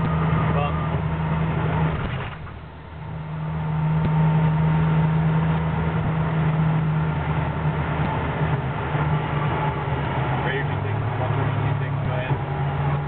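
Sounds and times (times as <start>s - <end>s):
vehicle engine and road drone: 0.0s - 13.0s.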